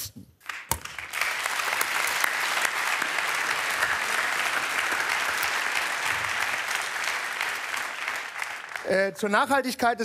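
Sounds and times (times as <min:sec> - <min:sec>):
audience applauding: 0:00.4 - 0:09.6.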